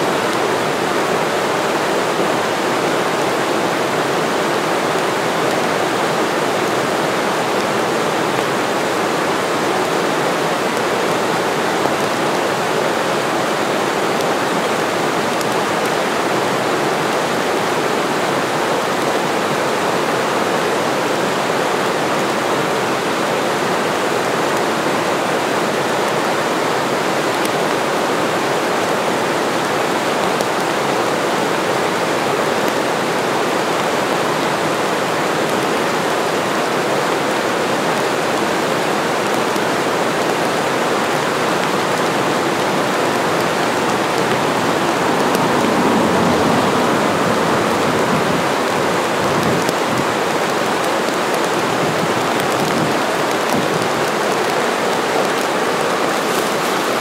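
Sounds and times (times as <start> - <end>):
small waterfall splashing on rocks: 0.1 - 57.0.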